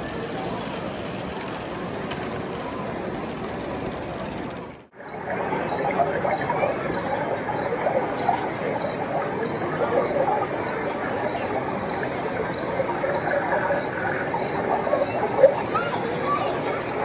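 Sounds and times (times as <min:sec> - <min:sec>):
crowd hubbub: 0:00.0 - 0:17.0
model trains running: 0:00.0 - 0:17.0.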